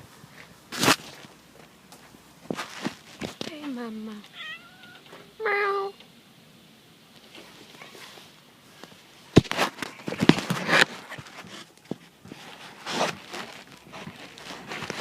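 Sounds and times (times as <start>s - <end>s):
cats scuffling and scrabbling: 0.4s - 5.4s, 7.1s - 15.0s.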